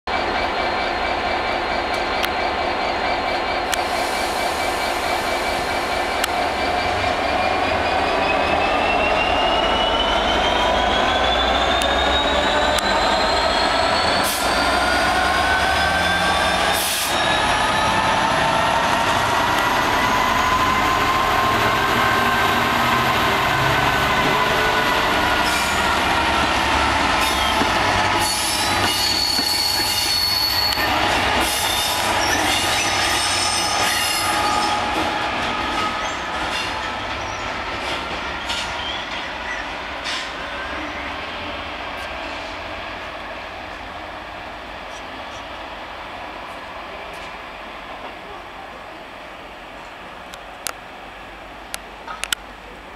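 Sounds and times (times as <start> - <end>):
train wheels squealing: 0.1 - 42.7.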